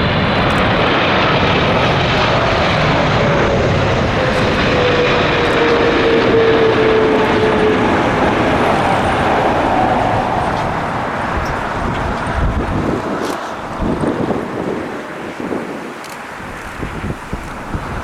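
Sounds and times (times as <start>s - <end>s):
jet engines roaring: 0.0s - 18.0s
wind buffeting microphone: 0.0s - 18.0s.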